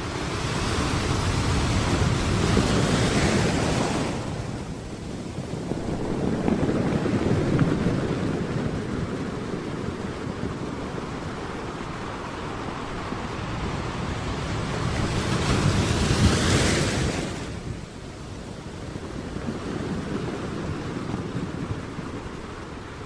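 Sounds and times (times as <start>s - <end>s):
sea surf washing onto beach: 0.0s - 23.0s
wind on microphone: 0.0s - 23.0s.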